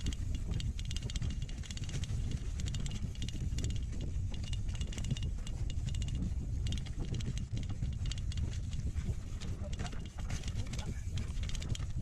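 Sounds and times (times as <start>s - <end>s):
bike rattling and clicking: 0.0s - 12.0s
wind rumble on camera: 0.0s - 12.0s.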